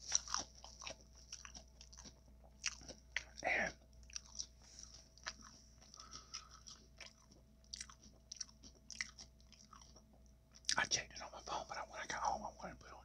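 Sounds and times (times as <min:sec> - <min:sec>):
chewing crunches: 0:00.0 - 0:11.2.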